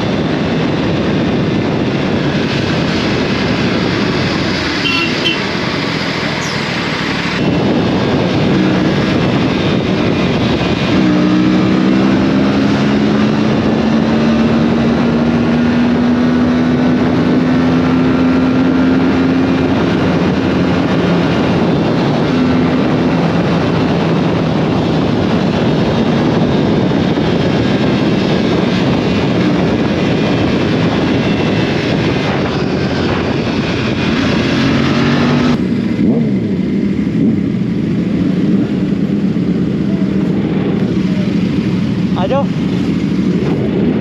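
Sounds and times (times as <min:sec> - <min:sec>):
motorcycle engine running: 0:00.0 - 0:44.0
wind rush: 0:00.0 - 0:44.0.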